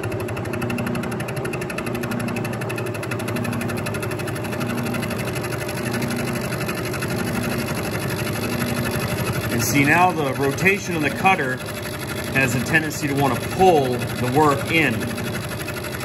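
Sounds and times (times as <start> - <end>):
milling machine hum: 0.0 - 16.0
cutter teeth pulsing: 0.6 - 16.0.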